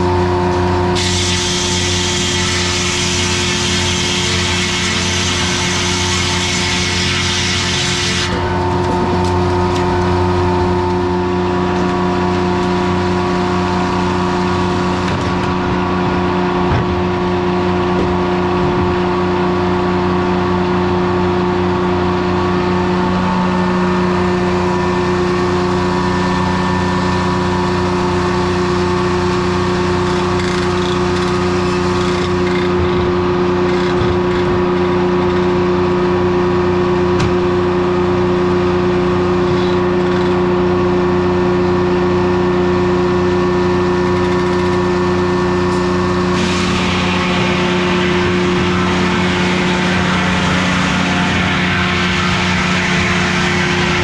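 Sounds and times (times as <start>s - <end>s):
diesel engine driving sawmill: 0.0s - 54.0s.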